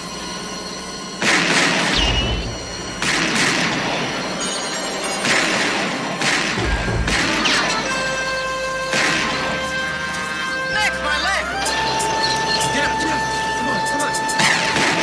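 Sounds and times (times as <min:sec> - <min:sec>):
tense film score drone: 0:00.0 - 0:15.0.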